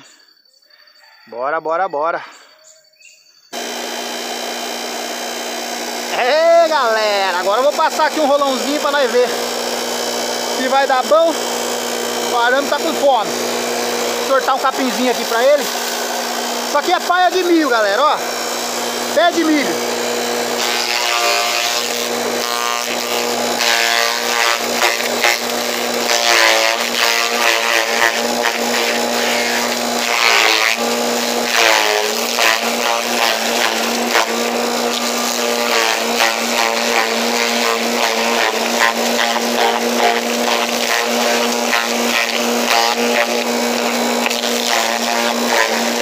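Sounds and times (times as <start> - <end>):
forage chopper running: 3.6 - 46.0
chopped material spraying: 5.9 - 46.0.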